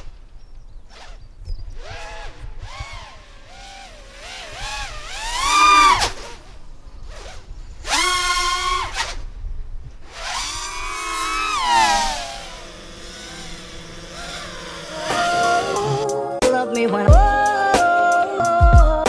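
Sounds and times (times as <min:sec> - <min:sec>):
stepper motors whining: 0:00.0 - 0:16.2.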